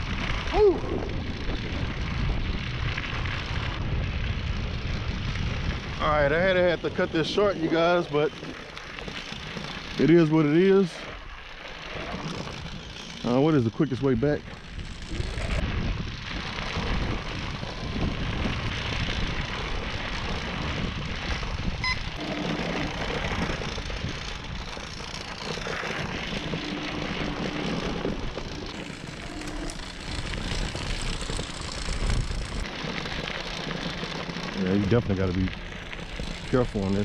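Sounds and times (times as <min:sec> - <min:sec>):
wind buffeting microphone: 0:00.0 - 0:08.7, 0:12.0 - 0:37.0
faint electric motor whine: 0:00.0 - 0:37.0.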